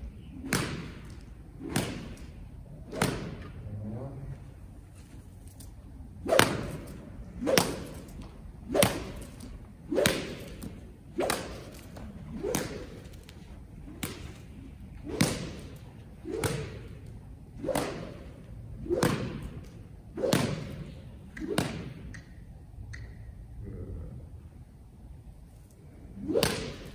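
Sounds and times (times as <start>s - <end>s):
whip swishing and slapping: 0.3s - 3.6s, 5.0s - 23.1s, 26.2s - 26.9s.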